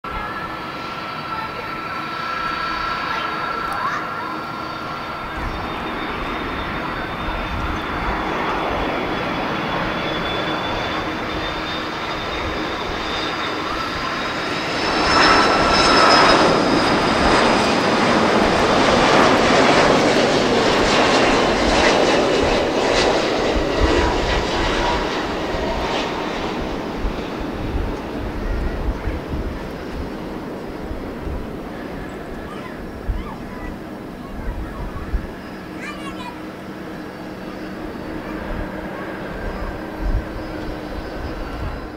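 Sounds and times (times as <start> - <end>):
jet engine whine: 0.0 - 41.9
rushing rumble of passing airliner: 0.0 - 41.9.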